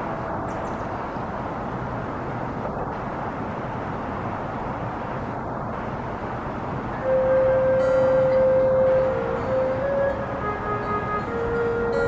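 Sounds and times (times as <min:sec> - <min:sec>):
distant city traffic: 0:00.0 - 0:12.0.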